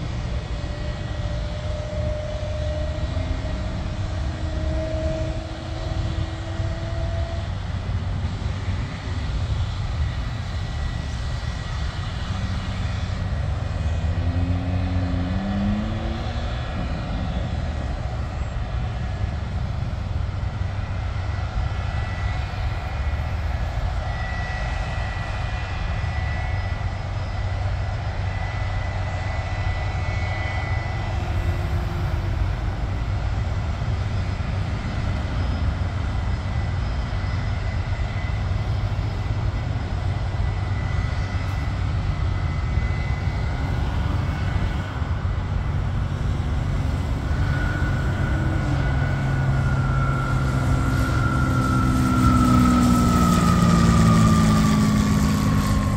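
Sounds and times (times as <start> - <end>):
faint high engine whine: 0.0 - 55.9
jet engines running: 0.0 - 55.9.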